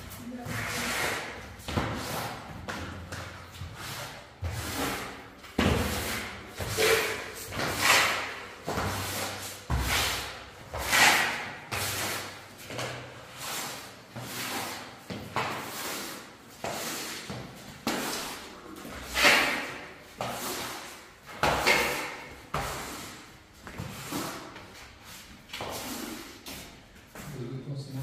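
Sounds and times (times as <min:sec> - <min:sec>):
squeegee scraping wet concrete: 0:00.4 - 0:02.9, 0:03.6 - 0:23.4, 0:25.2 - 0:26.4.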